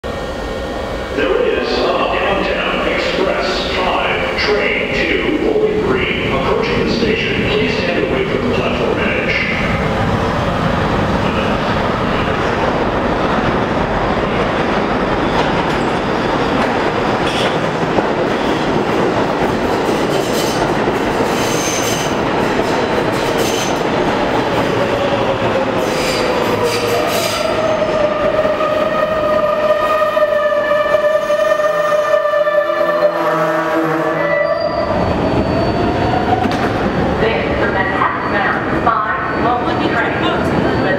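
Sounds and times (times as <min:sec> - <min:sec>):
train wheels rumbling on rail: 0:00.0 - 0:34.2, 0:34.8 - 0:40.9
high multi-tone train whine: 0:00.0 - 0:40.9.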